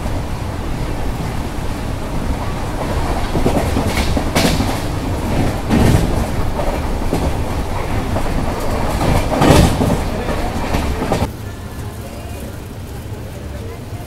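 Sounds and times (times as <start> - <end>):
loud train knocks: 0.0 - 11.3
wheels clicking over rail joints: 0.0 - 11.3
train rumbling on track: 0.0 - 14.0.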